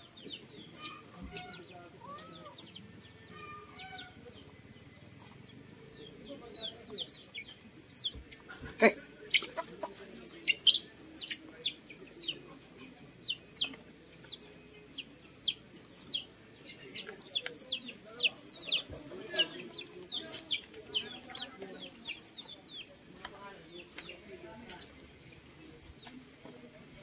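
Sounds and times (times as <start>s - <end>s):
chicks peeping: 0.0s - 27.0s.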